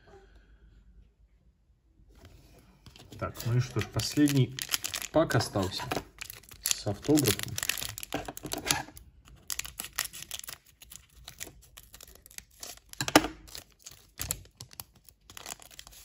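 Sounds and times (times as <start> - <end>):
foil wrapper crinkling: 2.9 - 16.0
foil wrapper ripping: 3.0 - 16.0.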